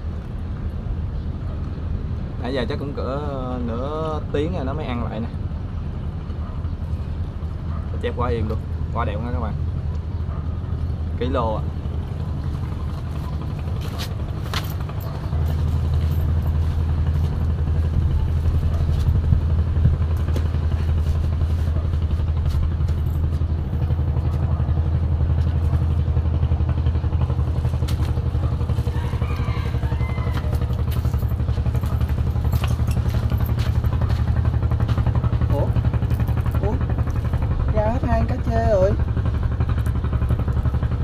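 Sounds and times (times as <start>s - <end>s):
engine droning hum: 0.0s - 41.0s.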